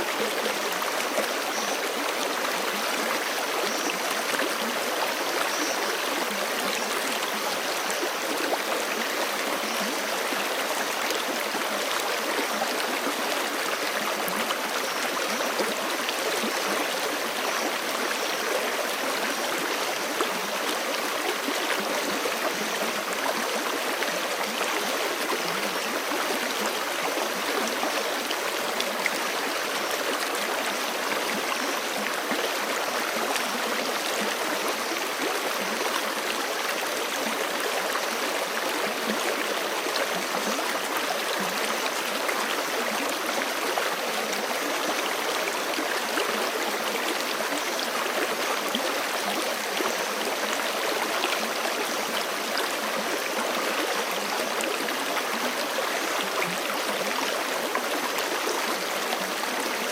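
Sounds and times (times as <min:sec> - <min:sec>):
creek running over rocks: 0:00.0 - 0:59.9.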